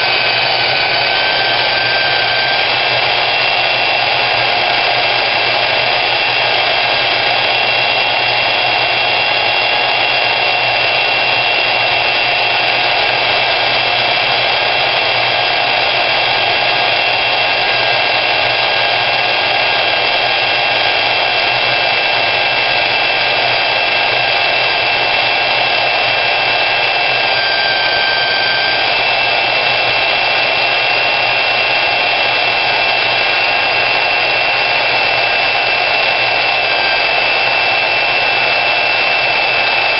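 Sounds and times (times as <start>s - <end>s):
band saw cutting steel: 0.0s - 39.9s.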